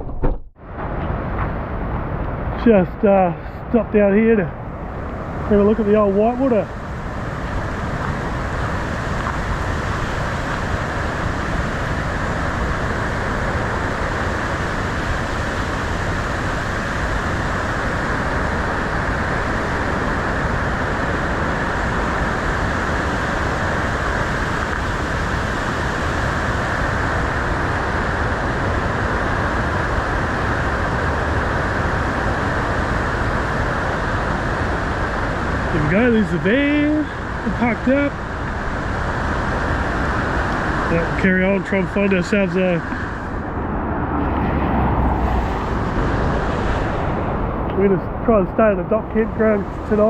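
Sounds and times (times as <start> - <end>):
whitewater rushing in a river: 4.8 - 48.5.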